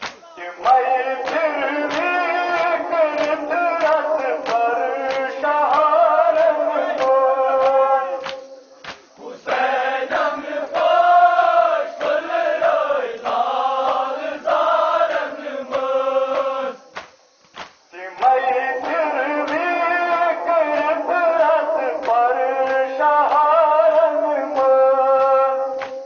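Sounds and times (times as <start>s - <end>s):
men chanting a lament: 0.0s - 17.0s, 17.8s - 26.0s.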